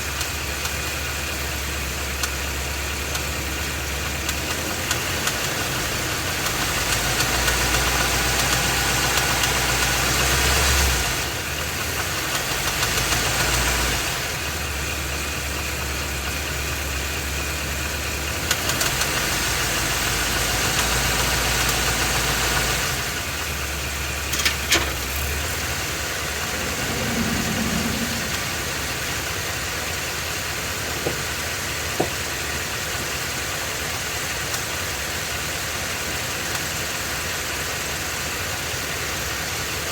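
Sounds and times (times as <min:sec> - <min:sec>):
engine running with internal noise: 0:00.0 - 0:39.9.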